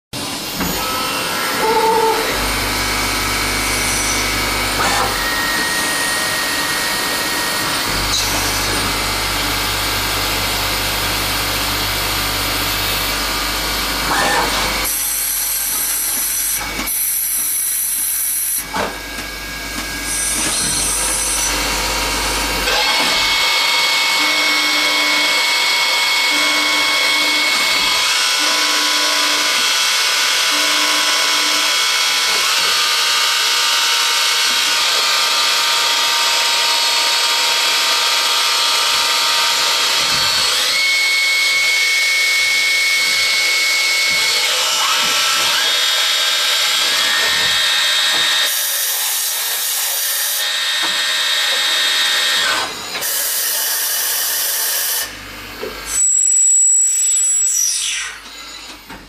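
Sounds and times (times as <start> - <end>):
lathe machining metal: 0.2 - 59.0.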